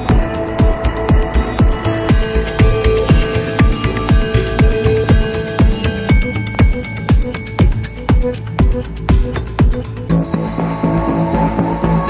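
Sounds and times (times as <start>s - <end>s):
kick drum: 0.0s - 10.2s
electronic music: 0.0s - 12.0s
synth notes: 0.0s - 12.0s.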